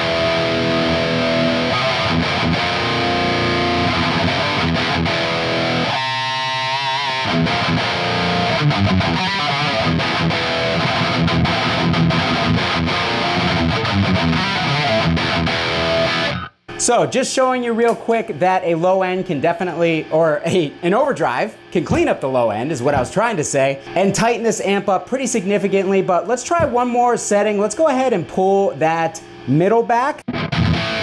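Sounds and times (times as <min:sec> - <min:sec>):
distorted electric guitar riff: 0:00.0 - 0:31.0.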